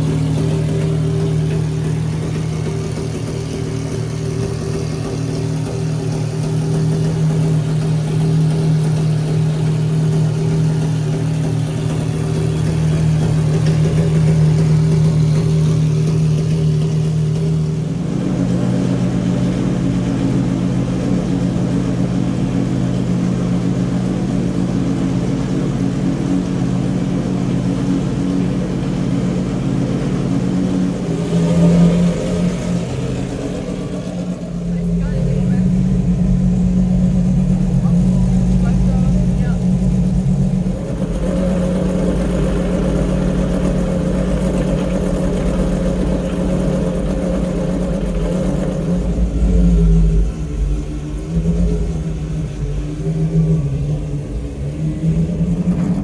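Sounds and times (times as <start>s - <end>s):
car engine running steadily: 0.0s - 56.0s.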